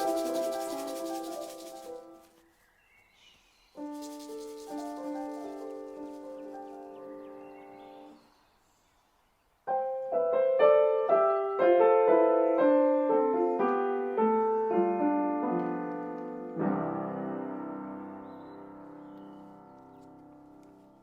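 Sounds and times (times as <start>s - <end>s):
piano melody: 0.0s - 2.3s, 3.8s - 8.2s, 9.7s - 21.0s.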